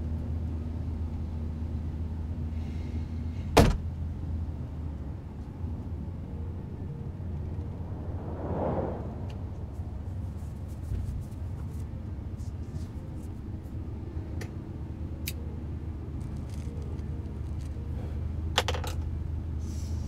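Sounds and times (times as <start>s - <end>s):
truck driving rumble: 0.0s - 20.0s.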